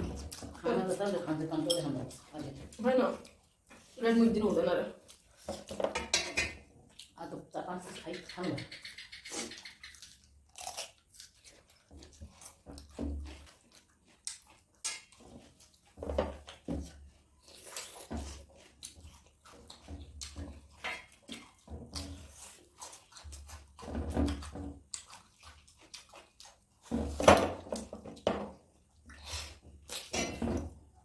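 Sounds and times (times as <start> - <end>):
wet chewing: 0.0 - 7.4, 8.0 - 30.7.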